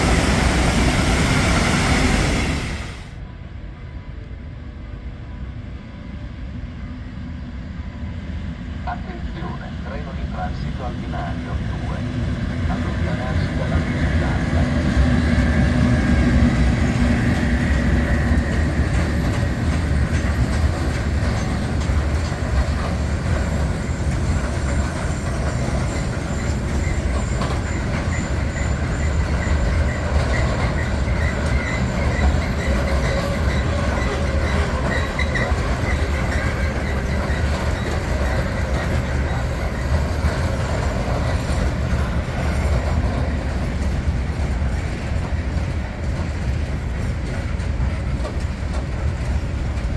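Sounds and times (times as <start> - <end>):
train wheel squeal: 0.0 - 3.1, 10.9 - 49.9
freight train rumbling over rails: 0.0 - 49.9.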